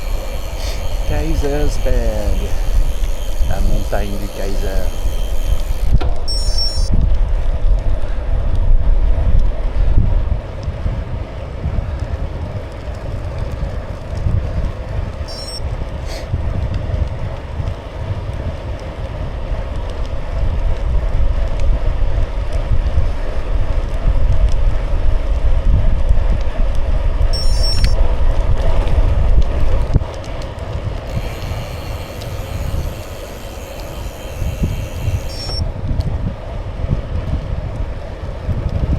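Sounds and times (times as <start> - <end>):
bicycle tyres rolling: 0.0 - 38.9
wind buffeting microphone: 0.0 - 38.9.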